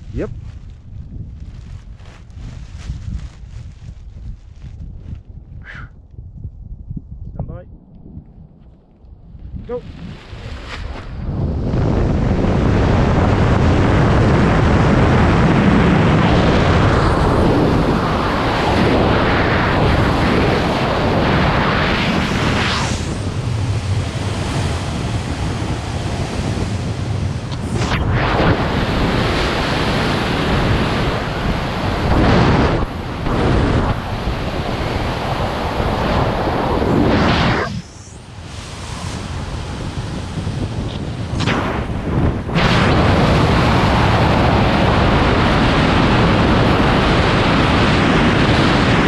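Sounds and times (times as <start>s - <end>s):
wind rushing on microphone: 0.0s - 49.0s.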